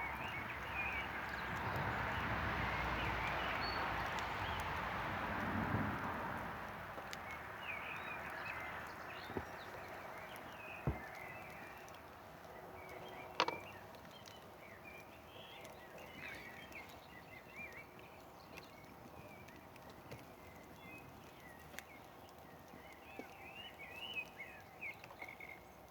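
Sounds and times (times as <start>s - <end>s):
birds chirping faintly: 0.0s - 25.9s
campfire popping: 0.0s - 25.9s.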